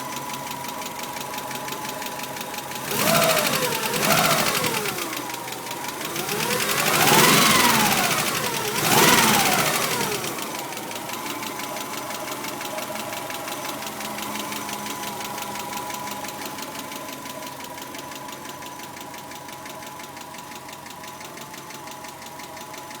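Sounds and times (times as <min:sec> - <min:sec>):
car engine revving and idling: 0:00.0 - 0:23.0
fast even engine ticking: 0:00.0 - 0:23.0.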